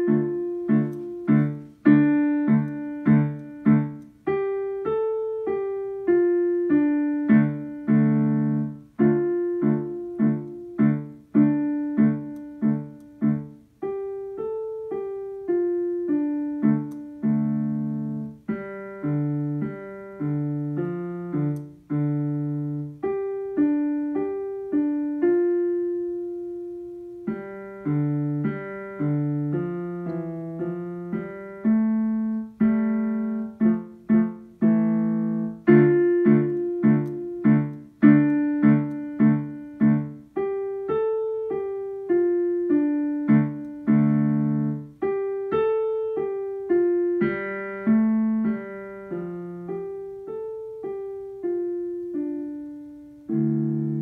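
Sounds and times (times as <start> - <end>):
digital piano melody: 0.0 - 54.0.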